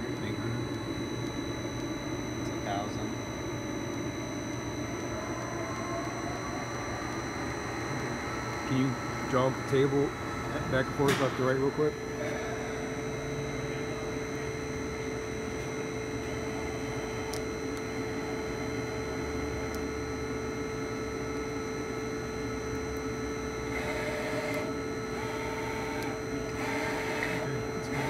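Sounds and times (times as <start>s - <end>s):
constant machine hum: 0.0s - 28.0s
mill axis drive whine: 0.0s - 28.0s.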